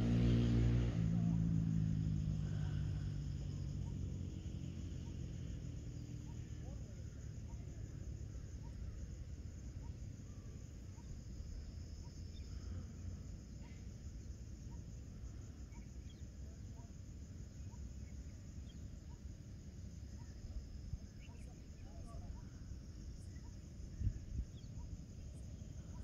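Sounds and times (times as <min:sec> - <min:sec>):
low steady rumble: 0:00.0 - 0:26.0
pulsing insect chorus: 0:00.0 - 0:26.0
faint bird chirps: 0:02.3 - 0:26.0.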